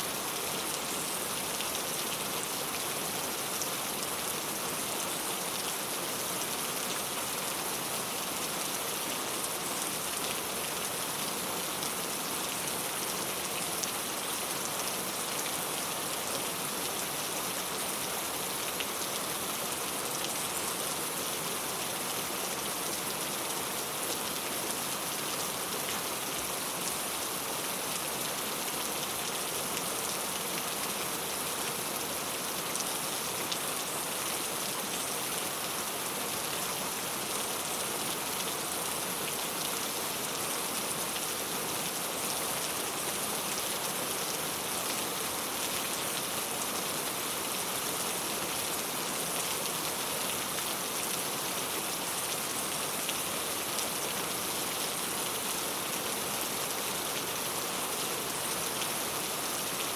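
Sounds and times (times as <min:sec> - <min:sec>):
rain on a tile roof: 0:00.0 - 0:59.9.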